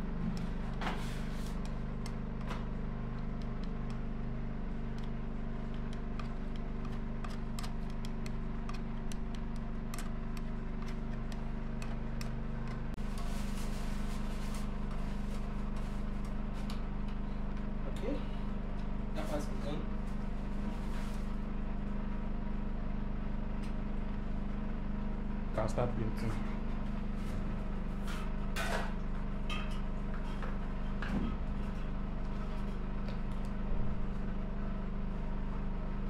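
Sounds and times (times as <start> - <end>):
mechanical hum: 0.0 - 36.0.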